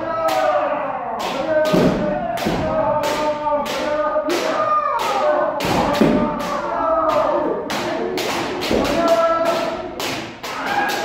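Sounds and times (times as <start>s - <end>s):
people shouting: 0.0s - 11.0s.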